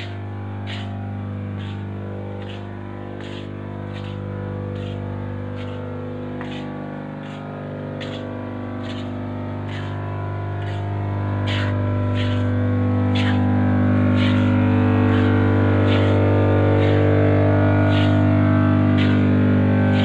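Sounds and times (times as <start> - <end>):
machinery electric hum: 0.0 - 20.0.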